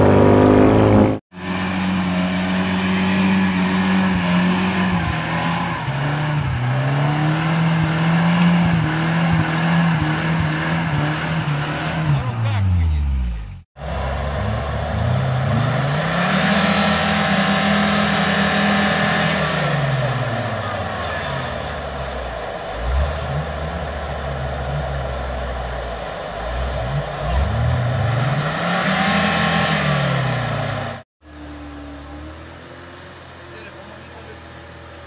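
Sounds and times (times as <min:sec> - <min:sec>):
engines revving hard: 0:00.0 - 0:35.0.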